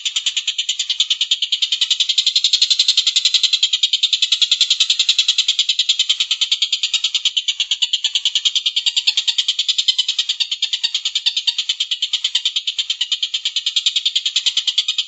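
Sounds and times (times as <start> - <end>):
bird chattering trill: 0.0 - 15.0.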